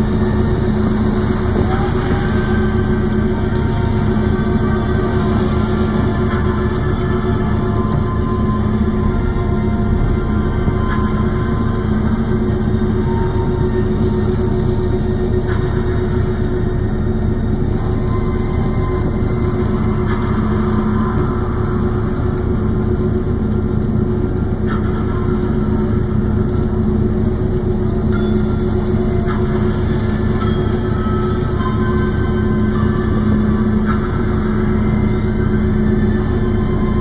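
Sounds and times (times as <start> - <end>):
ship engines droning: 0.0 - 37.0.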